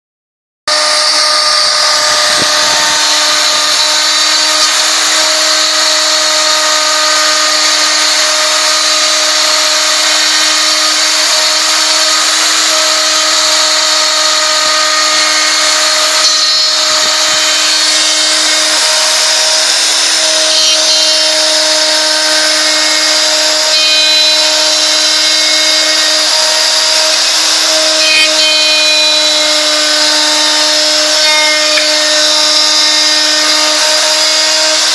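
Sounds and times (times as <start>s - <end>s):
spindle motor whine: 0.7s - 34.1s.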